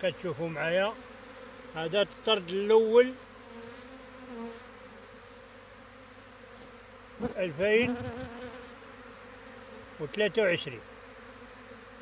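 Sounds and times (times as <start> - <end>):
bee buzzing past: 0.0 - 12.0
honeybee swarm humming: 0.0 - 12.0.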